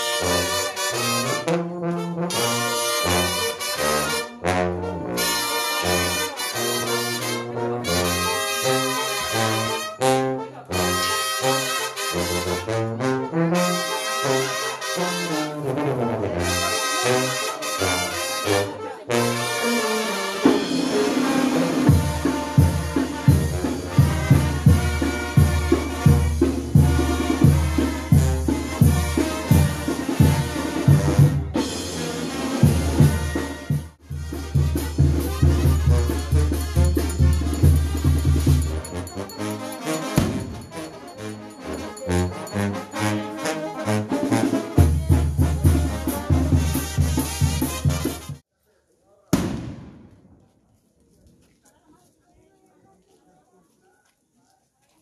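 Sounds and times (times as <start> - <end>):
brass band playing: 0.0 - 48.4.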